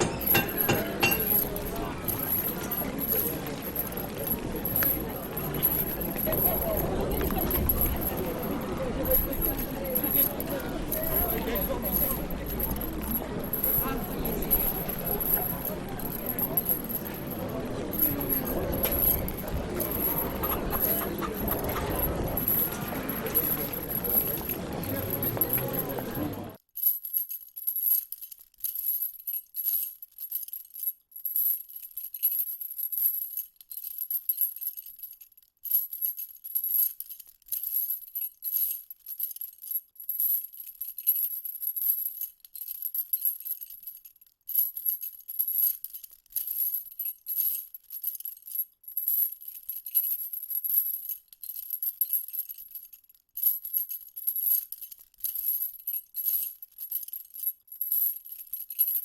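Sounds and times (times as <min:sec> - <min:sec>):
small metal bells jingling: 0:00.0 - 0:59.0.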